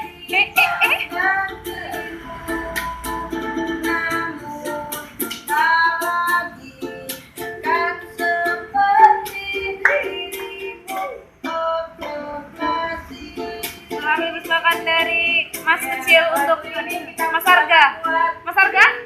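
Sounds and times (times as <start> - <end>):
child singing: 0.0 - 19.0
strummed string instrument: 0.0 - 19.0.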